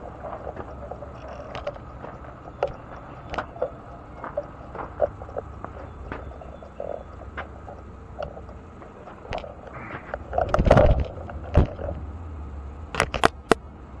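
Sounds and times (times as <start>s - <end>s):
frogs croaking: 0.0s - 12.0s
steady low hum: 0.0s - 14.0s
sharp clicks: 0.4s - 11.8s, 12.9s - 13.6s.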